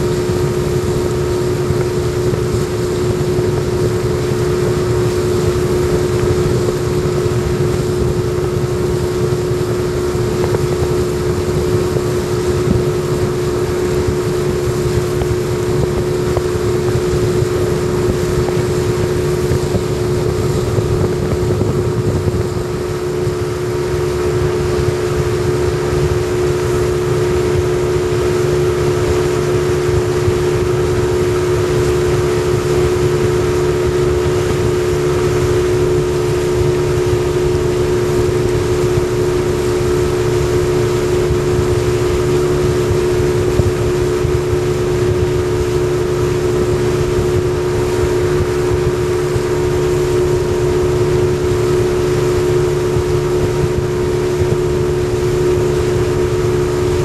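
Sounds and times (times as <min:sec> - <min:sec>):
outboard motor droning: 0:00.0 - 0:57.0.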